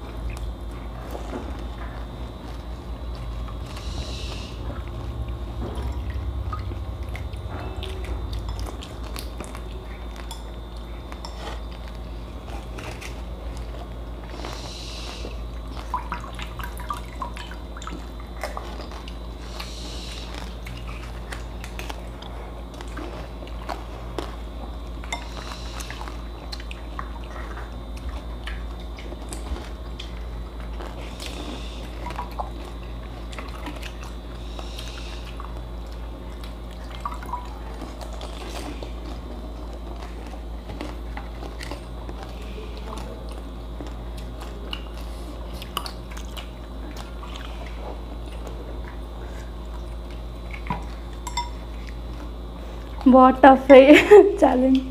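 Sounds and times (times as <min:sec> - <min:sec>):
slurping water: 0:00.0 - 0:53.0
steady low hum: 0:00.0 - 0:54.9.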